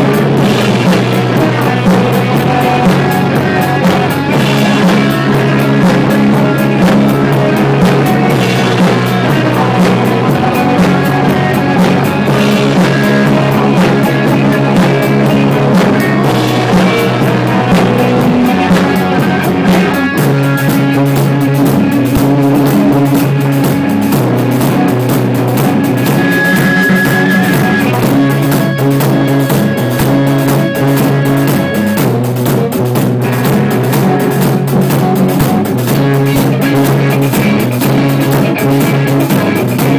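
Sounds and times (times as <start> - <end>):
drum kit with cymbals: 0.0 - 39.9
electric guitars: 0.0 - 39.9.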